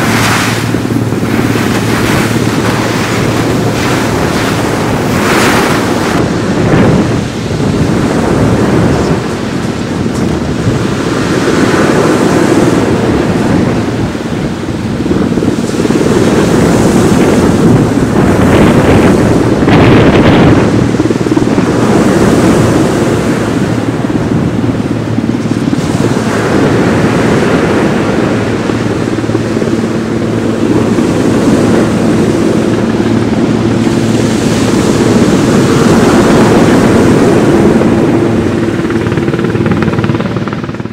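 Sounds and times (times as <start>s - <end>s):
surf breaking on a beach: 0.0s - 40.9s
wind buffeting microphone: 0.0s - 40.9s.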